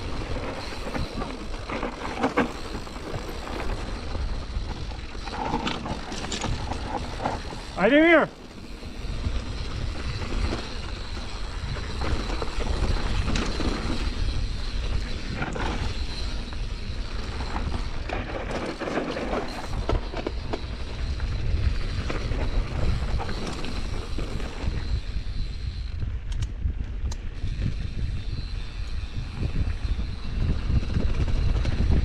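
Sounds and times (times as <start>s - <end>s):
bike tyres rolling over stones: 0.0s - 26.0s, 26.9s - 32.0s
bike rattling: 0.0s - 32.0s
wind rumble on microphone: 0.0s - 32.0s.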